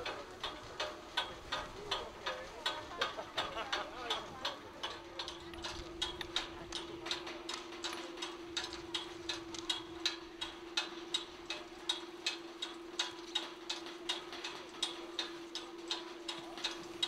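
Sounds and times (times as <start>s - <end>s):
chairlift rhythmic clicking: 0.0s - 17.0s.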